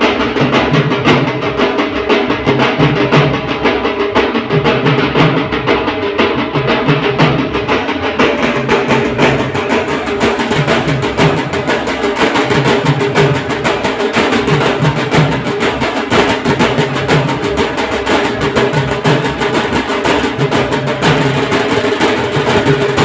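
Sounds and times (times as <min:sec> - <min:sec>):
drums in fast rhythm: 0:00.0 - 0:23.0.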